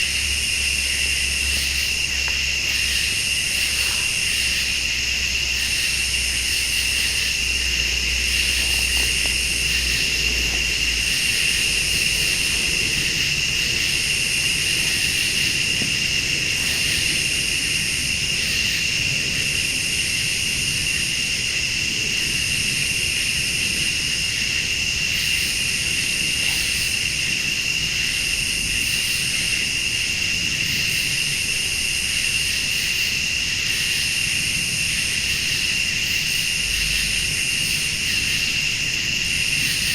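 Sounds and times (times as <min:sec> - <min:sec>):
crickets and insects chirping: 0:00.0 - 0:39.9
high pulsing insect call: 0:00.0 - 0:39.9.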